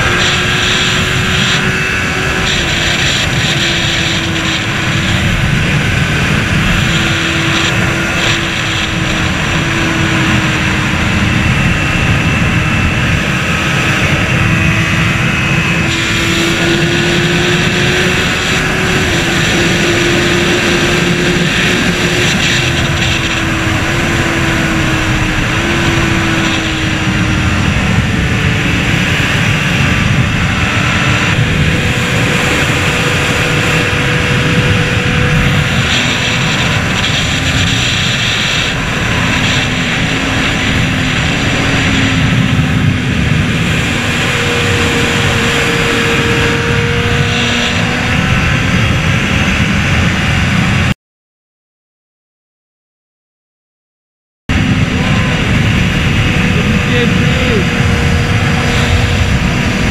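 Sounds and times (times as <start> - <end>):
motorcycle engine at speed: 0.0 - 51.0, 54.5 - 59.9
wind rushing: 0.0 - 51.0, 54.5 - 59.9.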